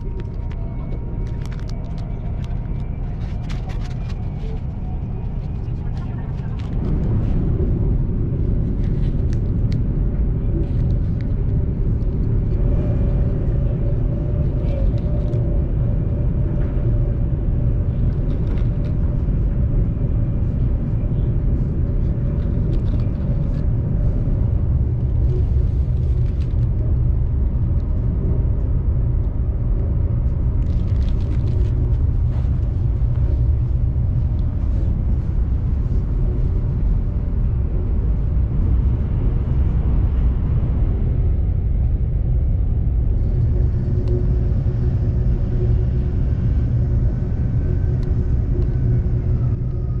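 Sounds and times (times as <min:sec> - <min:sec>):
faint hum: 0:00.0 - 0:50.0
train interior low rumble: 0:00.0 - 0:50.0.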